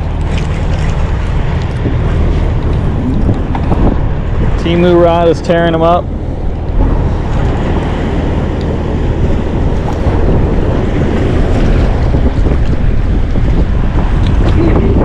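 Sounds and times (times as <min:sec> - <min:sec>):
water washing around boat: 0:00.0 - 0:15.0
wind rumbling on microphone: 0:00.0 - 0:15.0.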